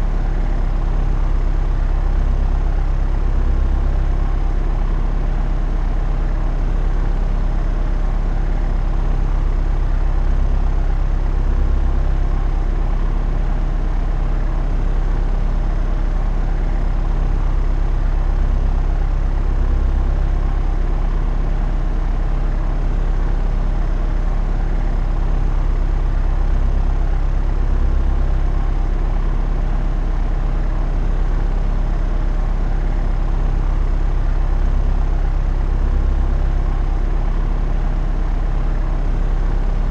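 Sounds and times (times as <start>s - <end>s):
propeller aircraft drone: 0.0s - 39.9s.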